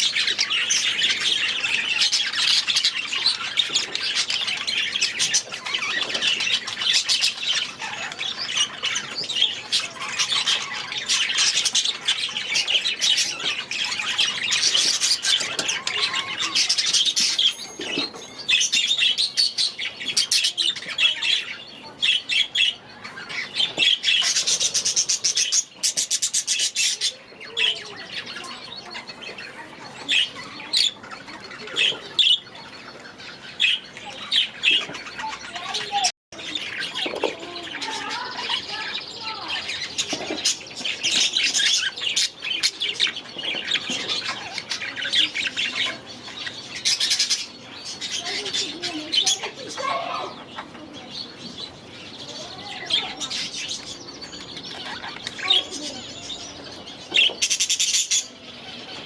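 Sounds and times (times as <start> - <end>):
budgerigars chattering and squawking: 0.0 - 59.0.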